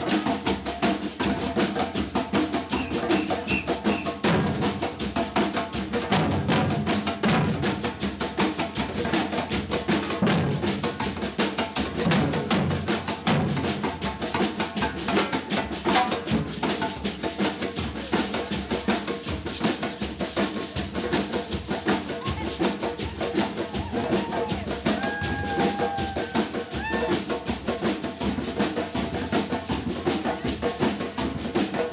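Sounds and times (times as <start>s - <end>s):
samba percussion band: 0.0s - 31.9s.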